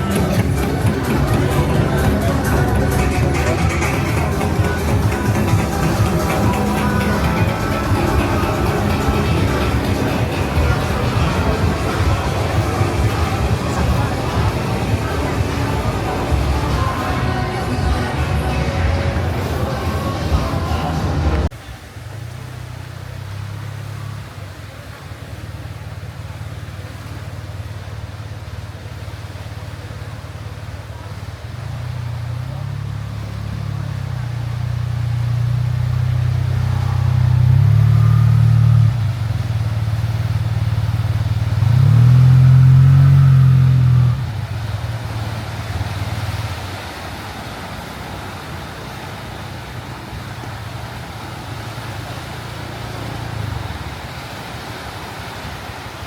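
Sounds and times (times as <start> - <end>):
low engine drone: 0.0 - 55.7.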